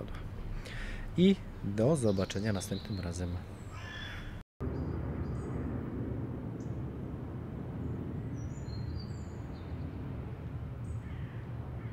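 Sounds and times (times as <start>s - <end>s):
low outdoor rumble: 0.0s - 11.9s.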